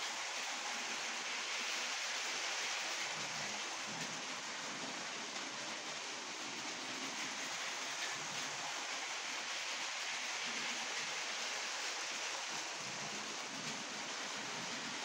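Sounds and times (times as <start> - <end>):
toy trains whirring on track: 0.0 - 15.0.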